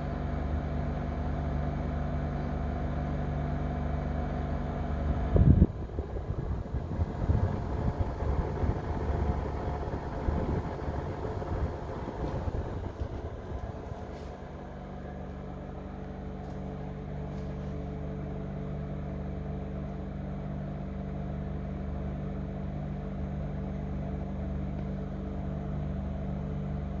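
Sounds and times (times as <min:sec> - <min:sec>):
air conditioner low drone: 0:00.0 - 0:27.0.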